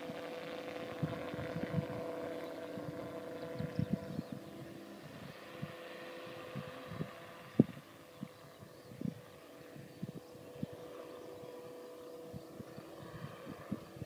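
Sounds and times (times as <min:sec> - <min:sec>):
wind buffeting microphone: 0:00.0 - 0:11.6, 0:12.2 - 0:14.0
distant gyroplane droning: 0:00.0 - 0:14.0.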